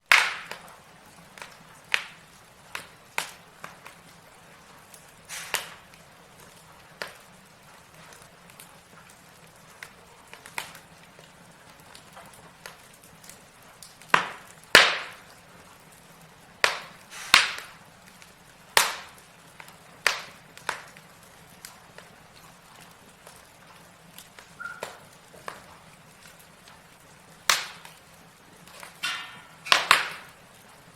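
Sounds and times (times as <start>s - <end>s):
faint steady hiss: 0.0s - 30.9s
logs crackling in fireplace: 0.0s - 30.9s.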